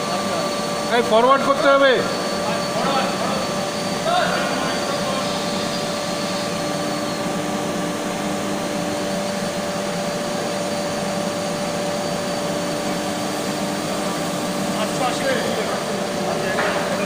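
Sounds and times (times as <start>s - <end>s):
rolling mill machinery drone: 0.0s - 17.0s.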